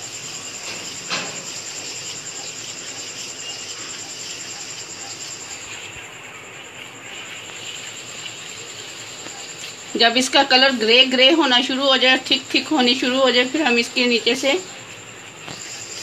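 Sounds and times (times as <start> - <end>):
gas stove hiss: 0.0 - 16.0.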